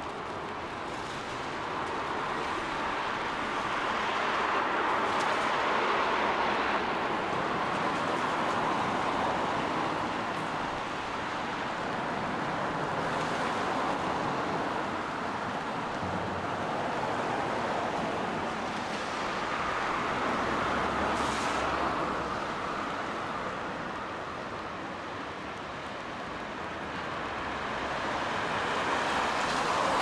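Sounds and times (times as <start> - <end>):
cars passing on wet road: 0.0 - 30.0.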